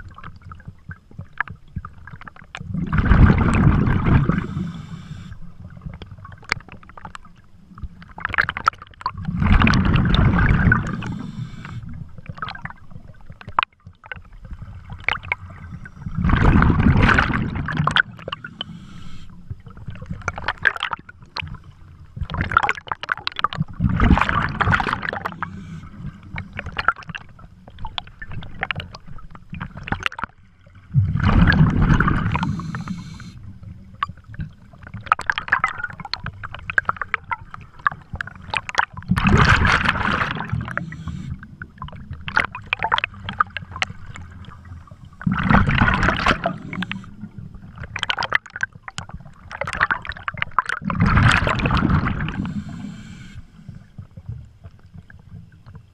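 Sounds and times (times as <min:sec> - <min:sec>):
underwater breath bubbles gurgling: 0:00.0 - 0:55.9.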